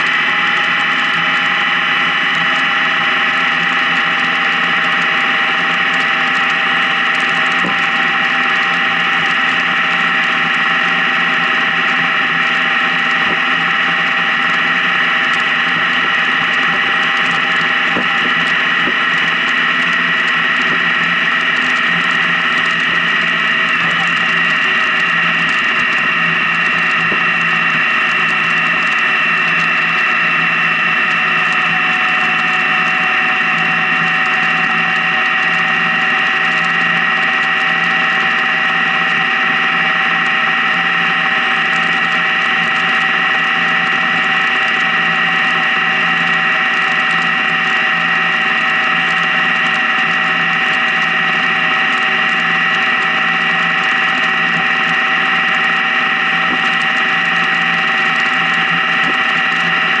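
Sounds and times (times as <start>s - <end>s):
motorcycle engine and road drone: 0.0s - 60.0s
steady whining tones: 0.0s - 60.0s.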